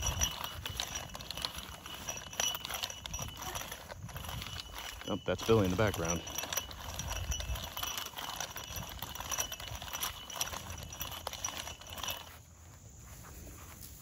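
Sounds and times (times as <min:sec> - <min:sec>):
light metallic clinks: 0:00.0 - 0:12.5
metal tines scraping through soil: 0:00.0 - 0:14.0.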